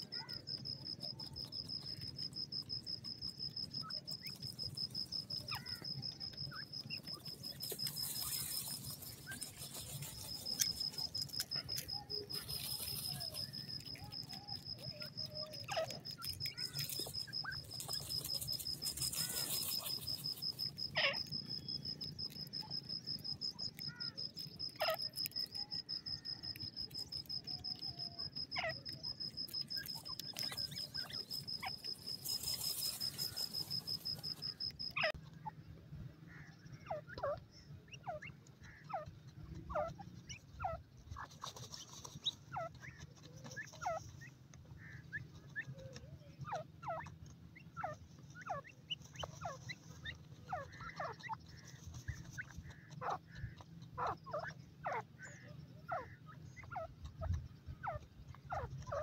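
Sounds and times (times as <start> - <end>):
cricket trilling: 0.0 - 35.2, 36.3 - 45.0, 45.8 - 59.0.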